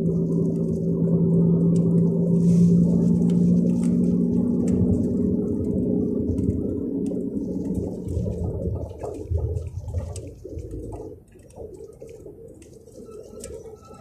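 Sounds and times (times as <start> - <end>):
coach diesel engine droning: 0.0 - 11.7.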